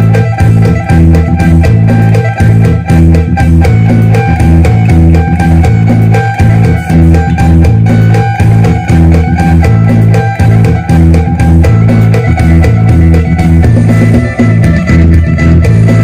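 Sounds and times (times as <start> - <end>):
electric guitar fast picked melody: 0.0 - 16.0
pulsing low bass: 0.0 - 16.0.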